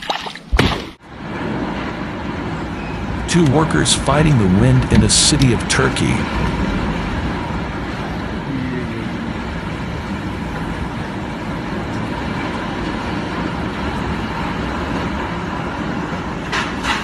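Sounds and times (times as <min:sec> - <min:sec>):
strong wind blowing: 0:01.0 - 0:17.0.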